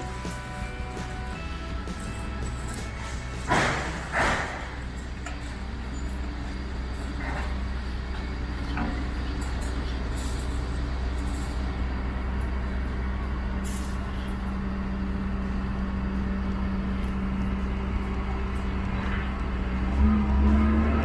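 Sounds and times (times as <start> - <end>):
diesel engine running and revving: 0.0 - 21.0.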